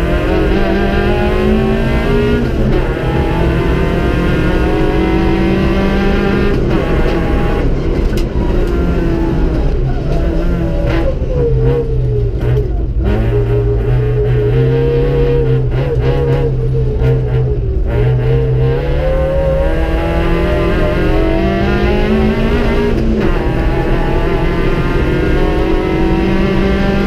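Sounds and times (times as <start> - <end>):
car engine revving through gears: 0.0 - 27.0.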